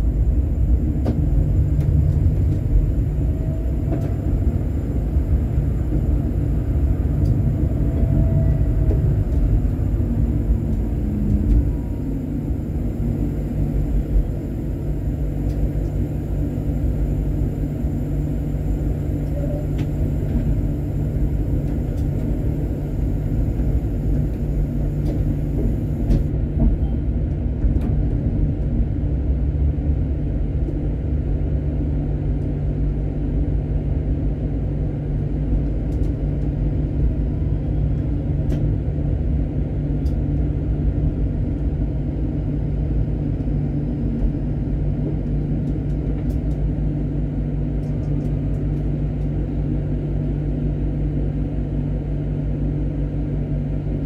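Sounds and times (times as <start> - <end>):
constant hum: 0.0 - 54.0
tram rumbling on rails: 0.0 - 54.0.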